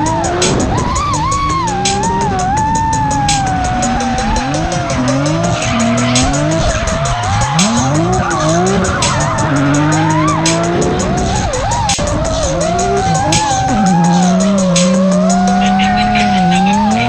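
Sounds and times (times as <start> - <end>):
car engine revving: 0.0 - 17.0
music with a steady beat: 0.0 - 17.0
tyres squealing: 0.0 - 17.0.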